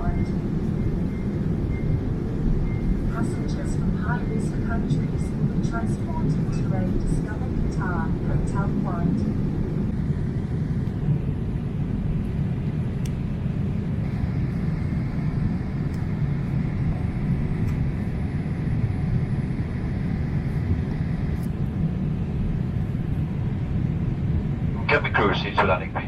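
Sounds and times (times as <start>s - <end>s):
airliner cabin roar: 0.0s - 26.0s.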